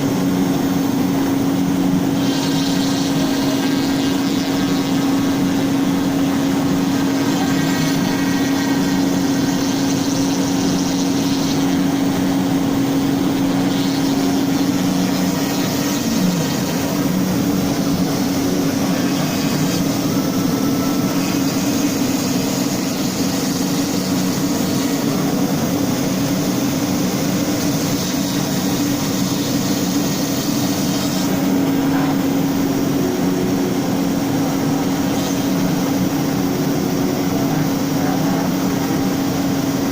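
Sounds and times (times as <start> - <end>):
router spindle high hum: 0.0 - 39.9
router bit cutting wood: 1.2 - 39.1.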